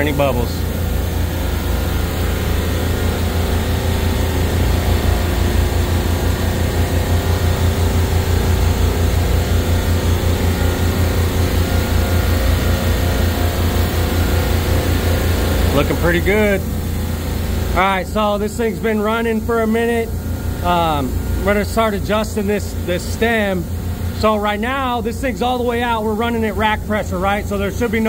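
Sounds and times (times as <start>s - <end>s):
refrigeration compressor hum: 0.0s - 28.0s.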